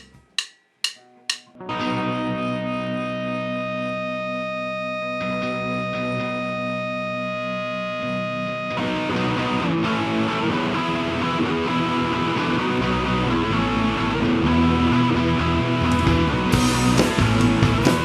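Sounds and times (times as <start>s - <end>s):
bass guitar: 0.0s - 18.0s
rock guitars: 1.6s - 18.0s.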